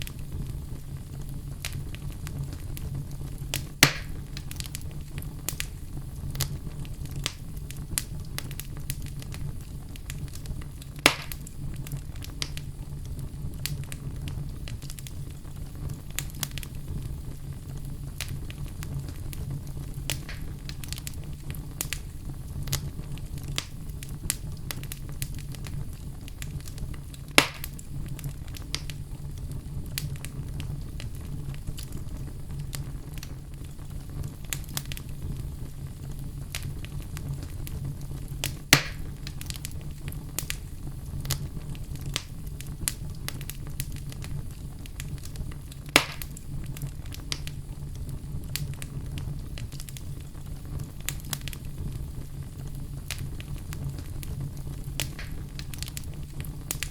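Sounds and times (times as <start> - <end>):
sharp fire pops: 0.0 - 56.9
wood fire crackling: 0.0 - 56.9.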